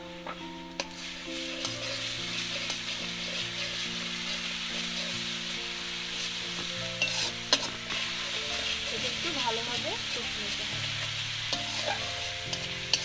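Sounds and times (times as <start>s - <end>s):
faint background music: 0.0s - 13.0s
onions sizzling in hot oil: 0.0s - 13.0s
metal spatula stirring: 0.8s - 13.0s.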